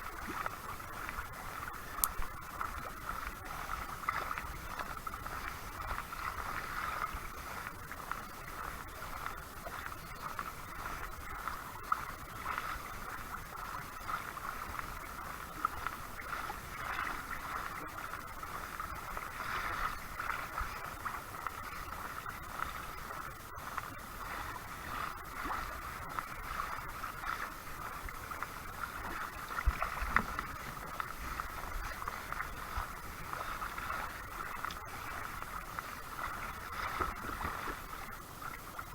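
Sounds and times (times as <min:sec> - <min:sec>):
water splashing against kayak hull: 0:00.0 - 0:38.9.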